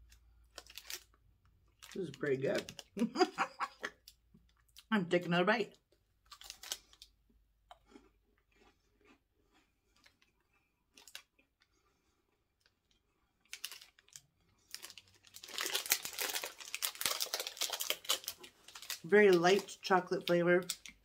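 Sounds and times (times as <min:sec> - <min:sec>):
crunchy chewing of wafer: 0:00.0 - 0:04.9, 0:05.8 - 0:19.9.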